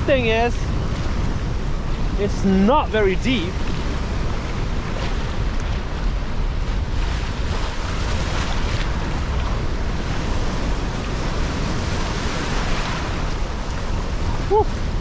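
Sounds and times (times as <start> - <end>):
sea waves washing in shallow water: 0.0 - 15.0
wind buffeting microphone: 0.0 - 15.0.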